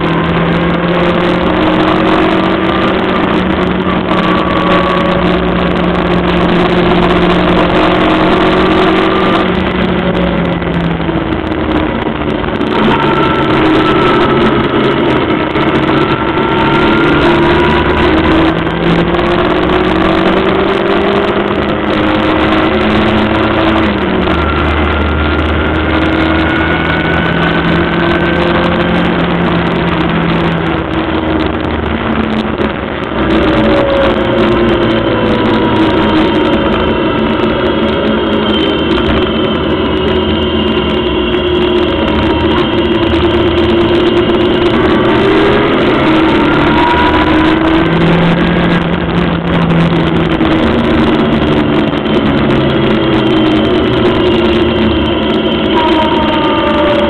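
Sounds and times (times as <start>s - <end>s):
racing car engine under load: 0.0s - 57.0s.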